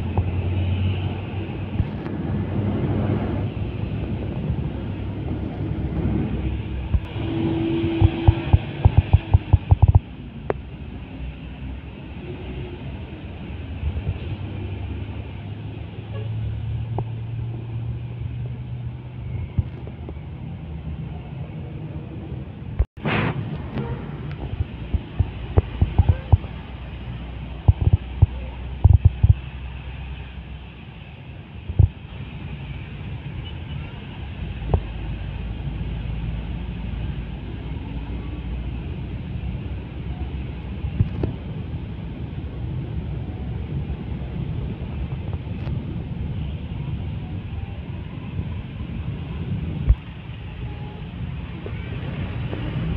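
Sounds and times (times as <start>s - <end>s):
street traffic engines rumbling: 0.0s - 52.9s.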